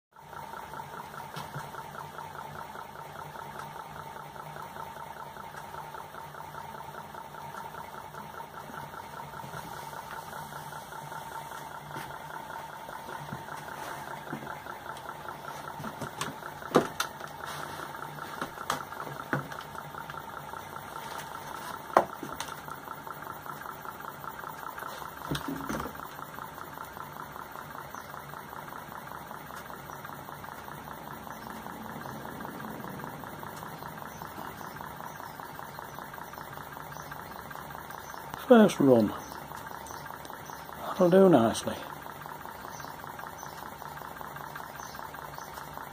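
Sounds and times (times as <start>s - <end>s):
model engine mechanical patter: 0.3s - 45.9s.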